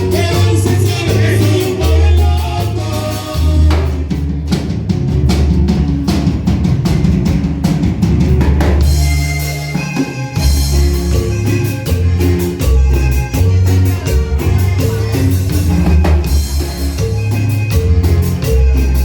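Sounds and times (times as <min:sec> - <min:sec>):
drum kit and percussion hits: 0:00.0 - 0:19.0
latin dance band music: 0:00.0 - 0:19.0.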